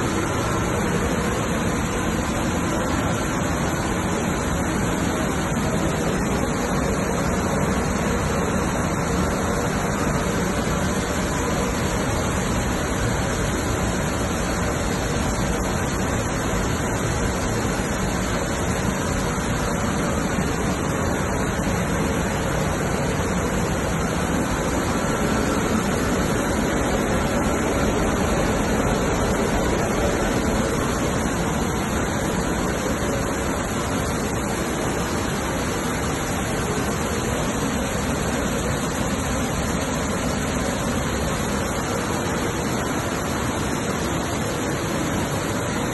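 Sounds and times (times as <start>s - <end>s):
grain cleaning machine running: 0.0s - 45.9s.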